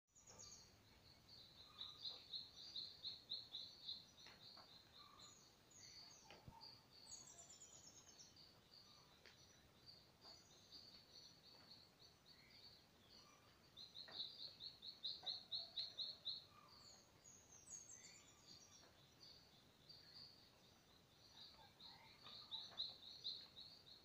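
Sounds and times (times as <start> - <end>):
birds chirping: 0.1 - 24.0.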